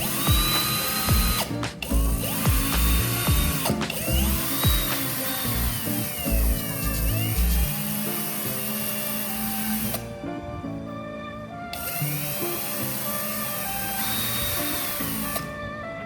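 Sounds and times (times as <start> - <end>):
electric drill whining: 0.0 - 10.2, 11.7 - 15.6
background music: 0.0 - 16.0.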